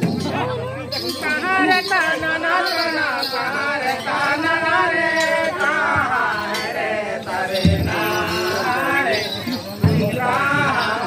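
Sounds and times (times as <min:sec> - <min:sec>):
group singing folk song: 0:00.0 - 0:11.0.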